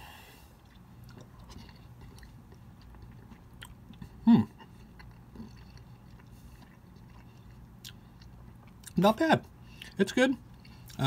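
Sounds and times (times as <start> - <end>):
person chewing soft food: 0.0 - 11.0.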